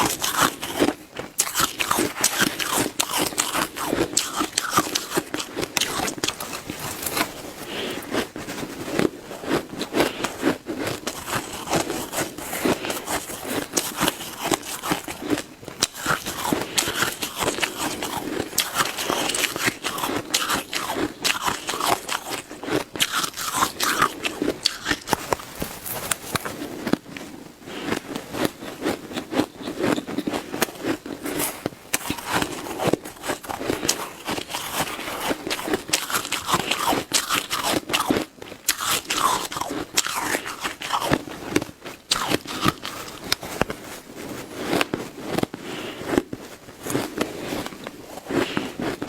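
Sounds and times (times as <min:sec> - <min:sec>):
ice crunching while chewed: 0:00.0 - 0:49.0.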